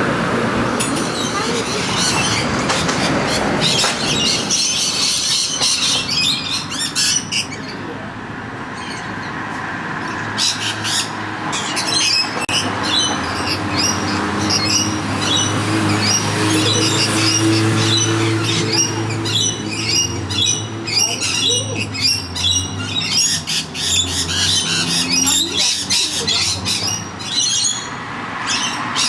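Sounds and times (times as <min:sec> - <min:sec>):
city background rumble: 0:00.0 - 0:29.0
parrots squawking: 0:01.0 - 0:08.0, 0:08.6 - 0:29.0.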